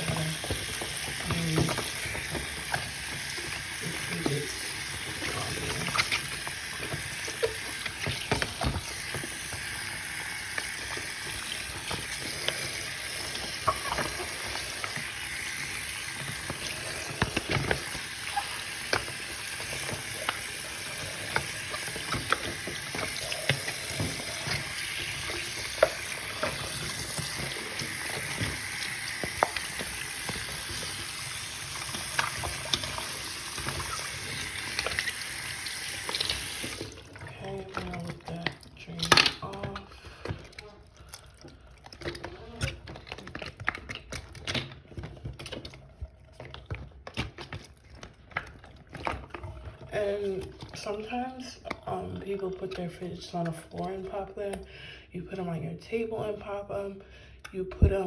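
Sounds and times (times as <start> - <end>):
tap water running into sink: 0.0 - 52.9
small knocks and splashes: 0.0 - 54.7.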